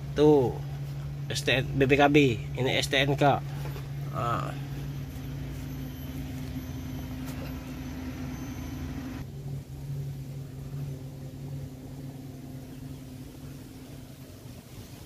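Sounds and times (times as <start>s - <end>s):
car engine idling hum: 0.0s - 15.0s.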